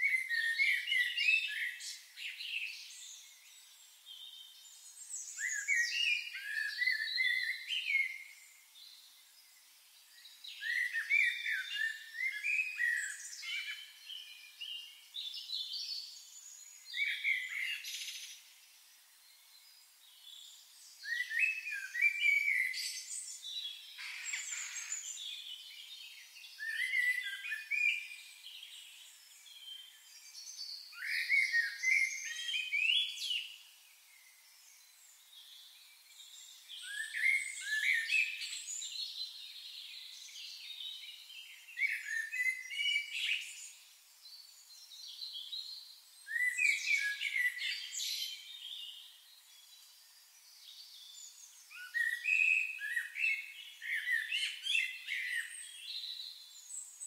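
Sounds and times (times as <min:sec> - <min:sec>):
quiet bird twittering: 0:00.0 - 0:57.0
songbirds chirping: 0:00.0 - 0:57.0.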